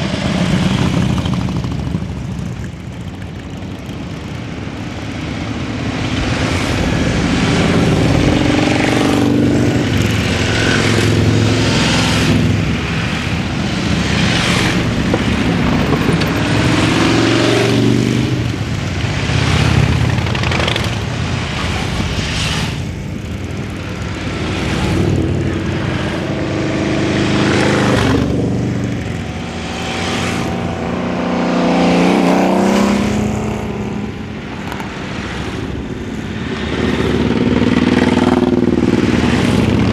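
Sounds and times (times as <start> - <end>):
motorcycles riding past: 0.0 - 39.9.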